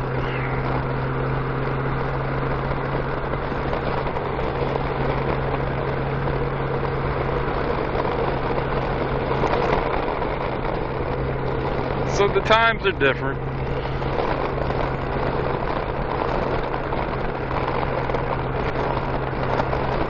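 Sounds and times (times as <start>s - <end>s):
motorcycle engine running steadily: 0.0s - 20.0s
wind and road noise: 0.0s - 20.0s.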